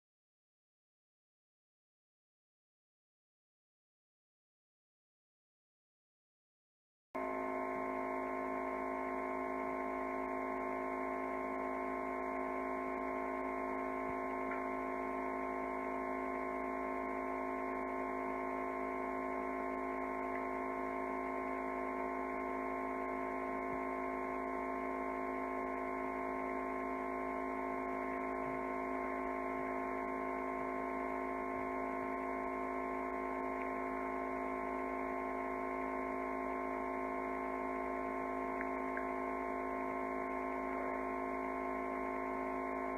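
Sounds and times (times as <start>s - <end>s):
steady electrical hum: 7.4s - 42.9s.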